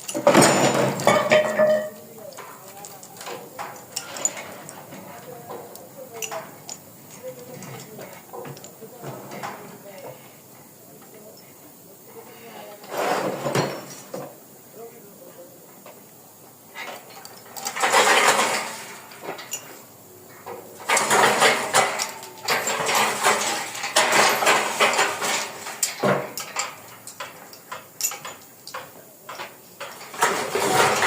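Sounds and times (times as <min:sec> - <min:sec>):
metal clattering and clinking: 0:00.0 - 0:10.2, 0:13.0 - 0:14.3, 0:16.7 - 0:31.0.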